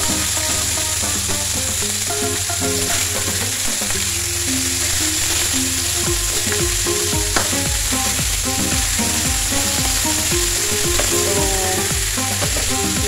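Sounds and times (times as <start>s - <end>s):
chicken sizzling in hot oil: 0.0s - 13.0s
melodic background music: 0.0s - 13.0s.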